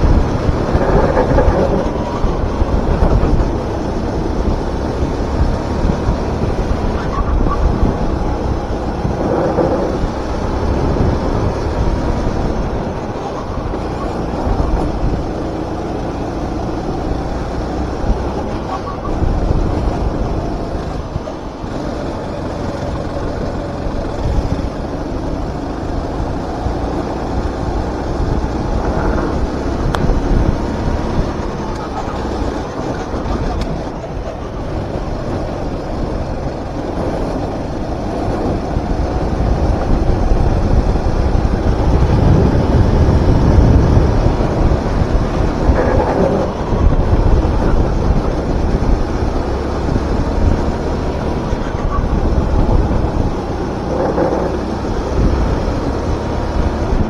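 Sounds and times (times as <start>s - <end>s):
kart engine racing: 0.0s - 57.0s
wind buffeting microphone: 0.0s - 57.0s.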